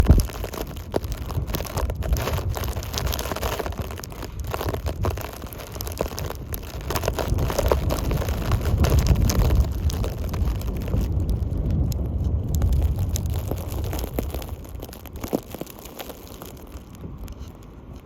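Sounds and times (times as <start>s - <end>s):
blizzard wind gusting: 0.0s - 18.0s.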